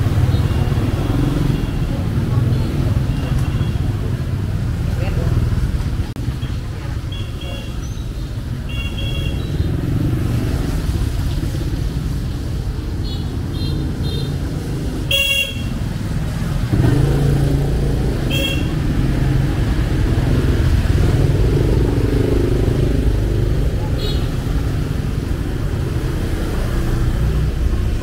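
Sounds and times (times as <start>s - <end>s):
motorbikes and cars passing: 0.0s - 28.0s.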